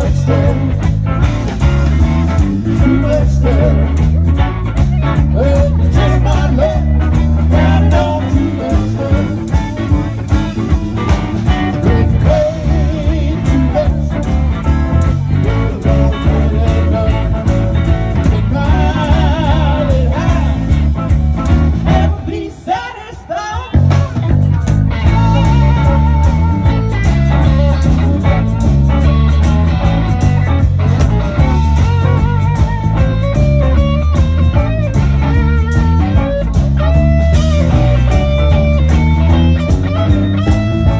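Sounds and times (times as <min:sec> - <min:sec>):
blues-rock band playing: 0:00.0 - 0:40.9.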